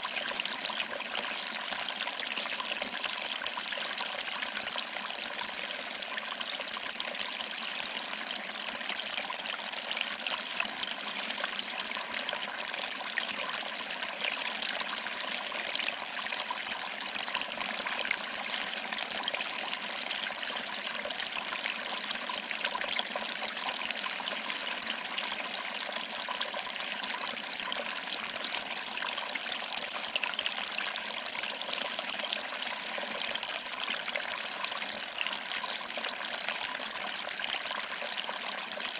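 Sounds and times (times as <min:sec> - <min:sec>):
small waterfall splashing into pool: 0:00.0 - 0:38.9.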